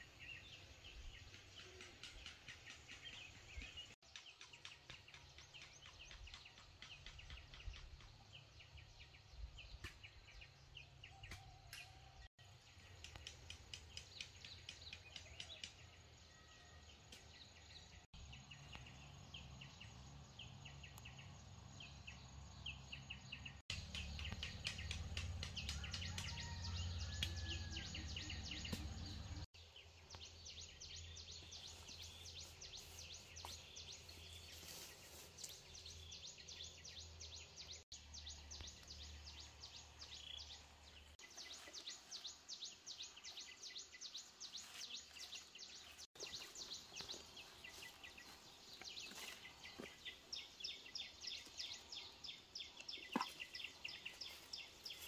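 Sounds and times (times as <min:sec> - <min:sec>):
birds and insects chirping: 0:00.0 - 0:55.0.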